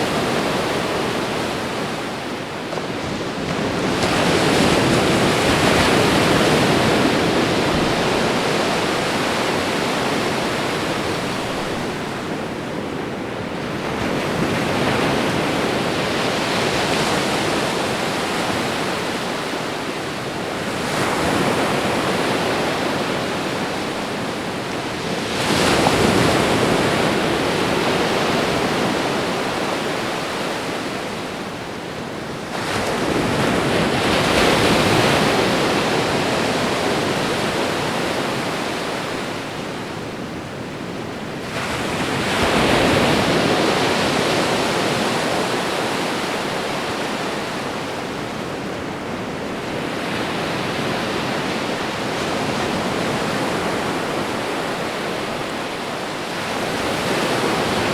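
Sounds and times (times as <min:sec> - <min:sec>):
ocean waves breaking on shore: 0:00.0 - 0:57.9.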